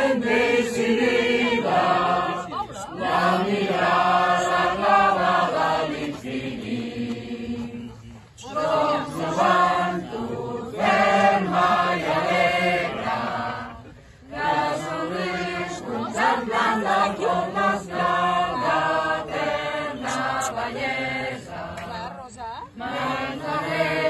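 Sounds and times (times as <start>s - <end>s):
group singing in unison: 0.0s - 24.0s.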